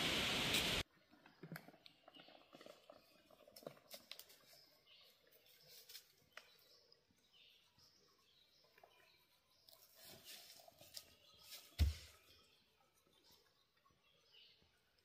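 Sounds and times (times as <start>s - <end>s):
faint woodland ambience: 0.0s - 15.0s.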